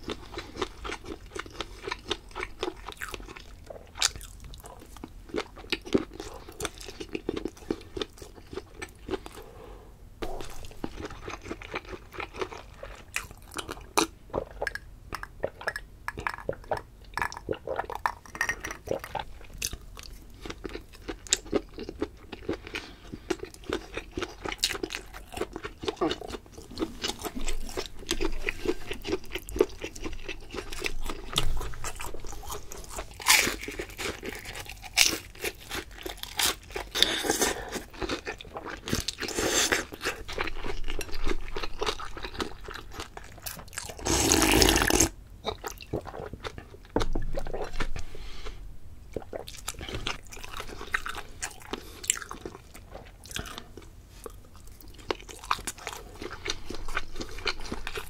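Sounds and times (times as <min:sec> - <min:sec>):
chewing with mouth clicks: 0:00.0 - 0:09.4, 0:10.2 - 0:48.0, 0:49.1 - 0:58.0.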